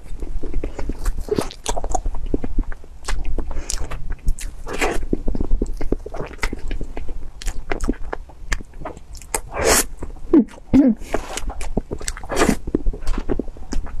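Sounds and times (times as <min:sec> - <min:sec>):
wet chewing and smacking: 0:00.0 - 0:14.0.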